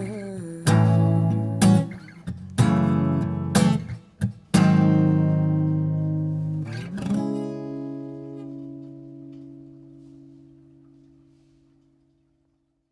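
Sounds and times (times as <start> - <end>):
acoustic guitar strumming chords: 0.0 - 11.9.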